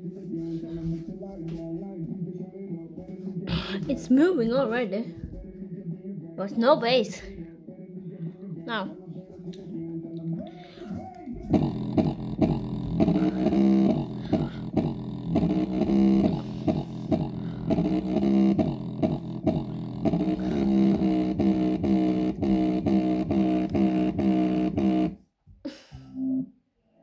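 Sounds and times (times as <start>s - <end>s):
music through distorted speaker: 0.0s - 25.2s.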